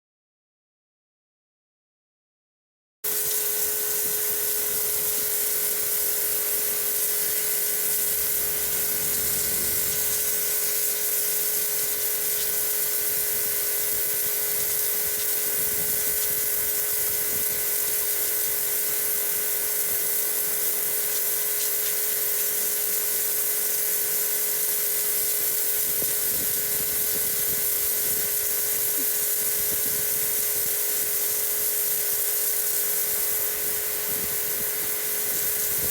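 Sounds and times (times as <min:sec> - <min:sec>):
motor and pump whine: 0:03.1 - 0:35.9
pressure washer water hiss: 0:03.1 - 0:35.9.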